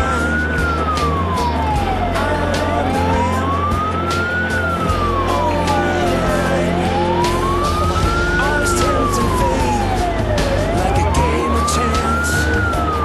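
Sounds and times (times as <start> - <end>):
fire engine siren wailing: 0.0 - 13.0
truck engine running: 0.0 - 13.0.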